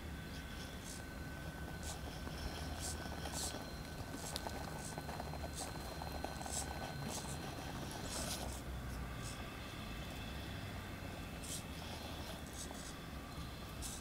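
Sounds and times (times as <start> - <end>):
electric motor whining faintly: 0.0 - 14.0.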